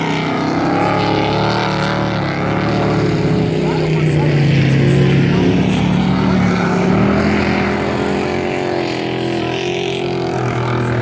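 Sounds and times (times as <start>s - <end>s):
race truck engines droning: 0.0s - 11.0s.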